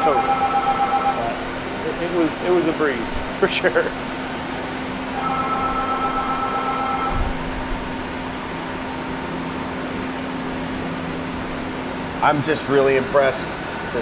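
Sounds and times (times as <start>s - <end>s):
faint whine of steady tones: 0.0s - 14.0s
low machine hum: 0.0s - 14.0s.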